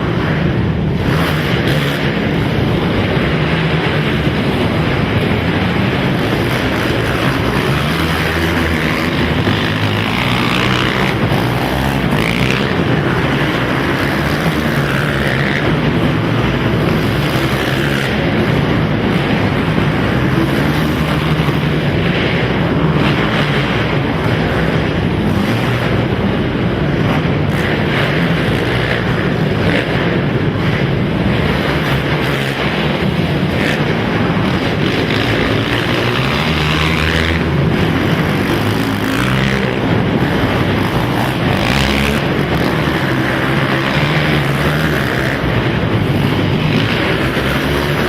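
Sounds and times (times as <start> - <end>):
quad engines running hard: 0.0 - 48.0.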